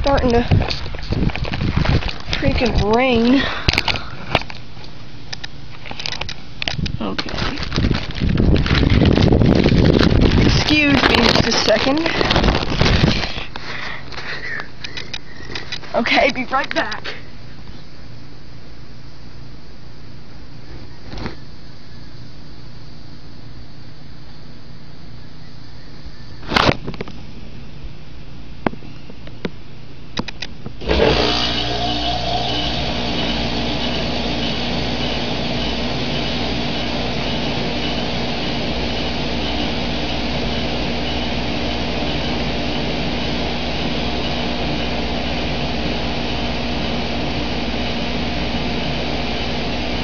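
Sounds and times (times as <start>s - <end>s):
heat pump compressor and fan humming: 0.0s - 25.3s, 26.1s - 50.0s.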